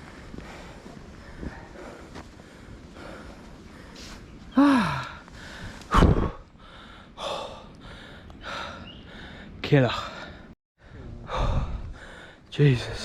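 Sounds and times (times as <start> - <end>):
man panting: 0.0 - 12.4.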